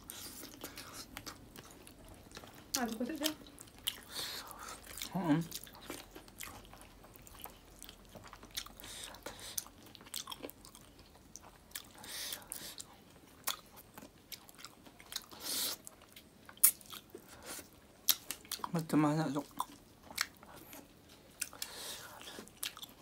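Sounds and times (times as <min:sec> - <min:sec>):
chewing and mouth smacks: 0:00.0 - 0:18.8, 0:19.4 - 0:23.0.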